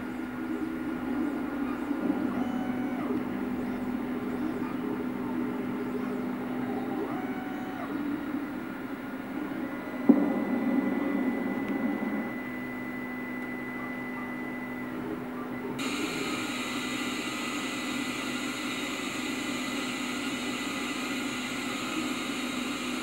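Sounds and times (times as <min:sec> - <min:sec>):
tv static hiss: 0:00.0 - 0:23.0.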